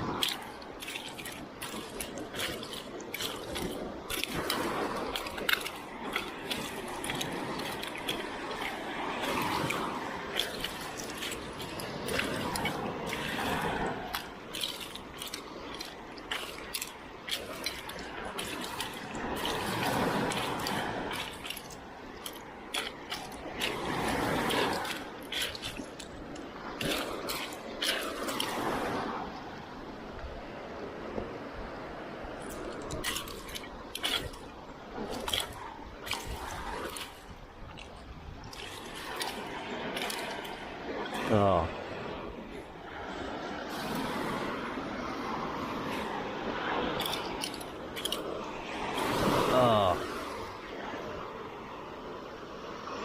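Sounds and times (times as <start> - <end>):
sea water sloshing: 0.0 - 53.0
seawater splashing: 0.0 - 53.0.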